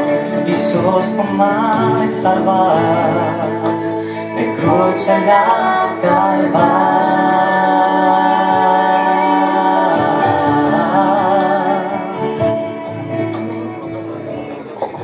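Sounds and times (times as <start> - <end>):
woman and man singing duet: 0.0 - 12.9
instrumental backing music: 0.0 - 15.0.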